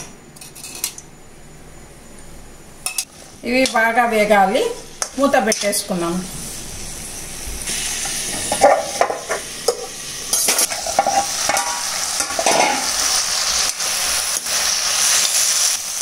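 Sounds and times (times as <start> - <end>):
vegetables sizzling in oil: 2.8 - 16.0.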